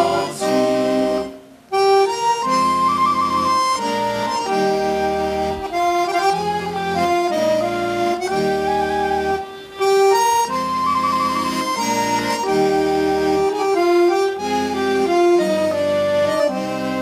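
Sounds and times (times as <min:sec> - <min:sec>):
flute and violin melody: 0:00.0 - 0:17.0.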